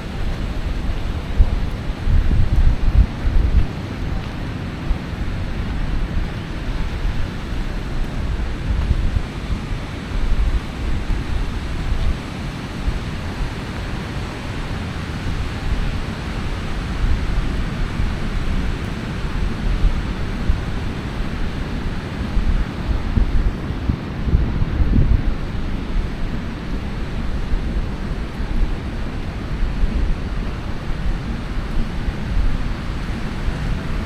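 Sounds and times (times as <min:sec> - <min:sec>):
ocean surf washing onto beach: 0:00.0 - 0:34.0
wind buffeting microphone: 0:00.0 - 0:34.0.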